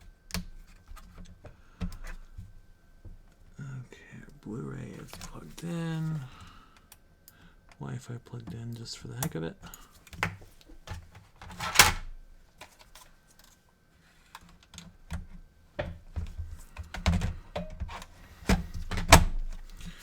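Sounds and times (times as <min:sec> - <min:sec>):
hands handling console and cables: 0:00.0 - 0:03.5, 0:04.9 - 0:07.0, 0:08.4 - 0:20.0.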